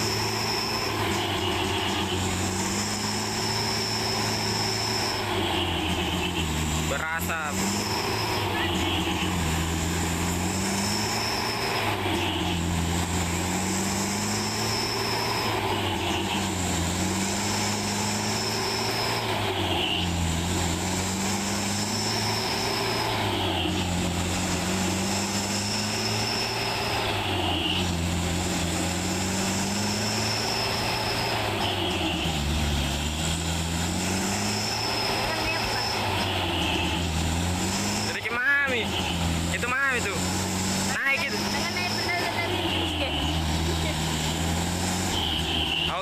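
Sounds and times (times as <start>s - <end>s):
truck diesel engine under load: 0.0s - 46.0s.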